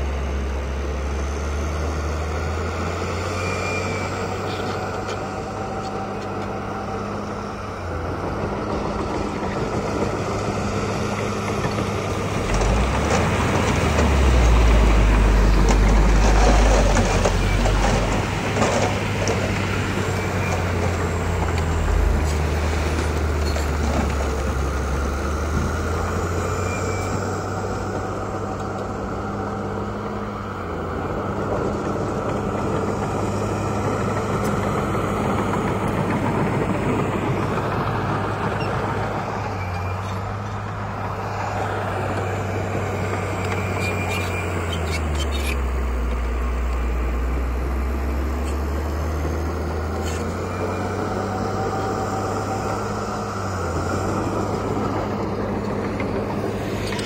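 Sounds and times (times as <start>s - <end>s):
heavy diesel machinery drone: 0.0s - 57.0s.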